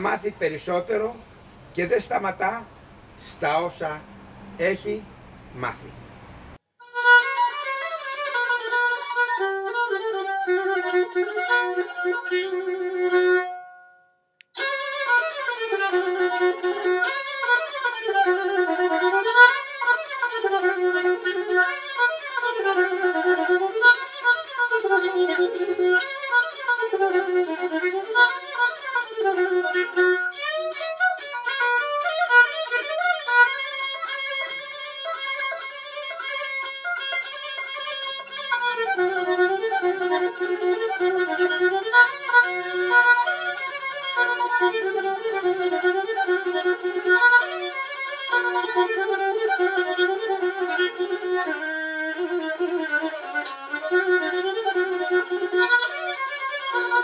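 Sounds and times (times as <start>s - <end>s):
bowed lyra melody: 6.8s - 13.9s, 14.6s - 57.0s.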